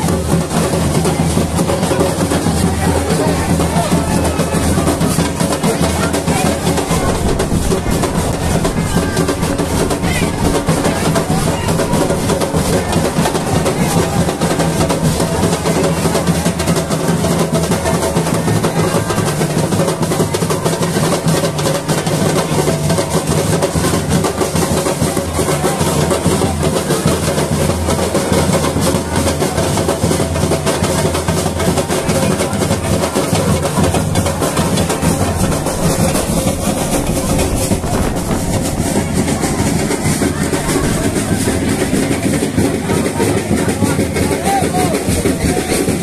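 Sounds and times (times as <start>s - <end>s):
carnival drums beating: 0.0s - 46.0s.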